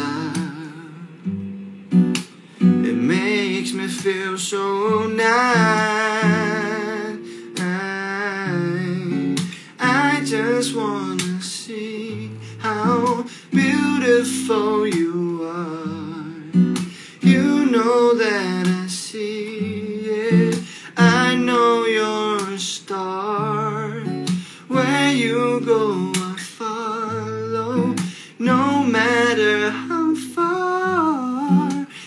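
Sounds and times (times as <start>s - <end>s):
man singing with vibrato: 0.0s - 1.8s, 2.8s - 32.0s
acoustic guitar strumming: 0.0s - 32.0s.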